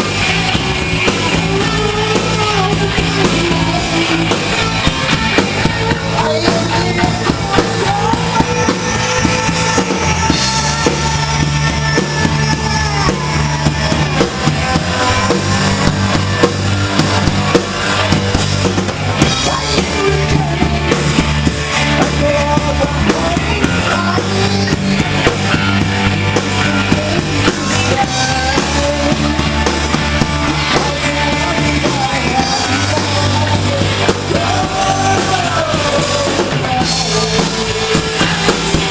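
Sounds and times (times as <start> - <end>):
bass low notes: 0.0 - 38.9
drum kit: 0.0 - 38.9
person singing: 0.0 - 38.9.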